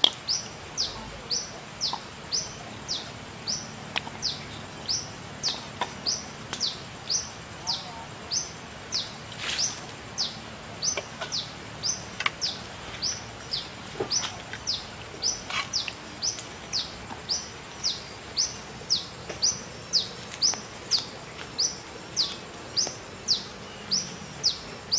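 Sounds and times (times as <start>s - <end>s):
bird chirping: 0.0s - 24.9s.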